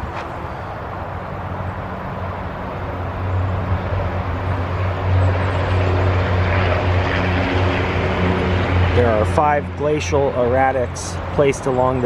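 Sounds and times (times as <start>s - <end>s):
vehicle engine hum and road noise: 0.0s - 12.0s.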